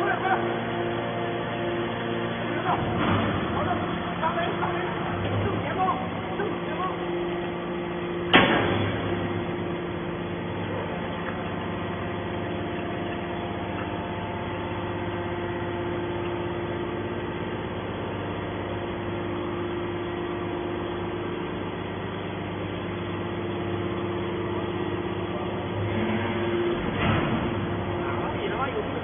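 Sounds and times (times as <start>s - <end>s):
hydraulic pump humming: 0.0s - 29.0s.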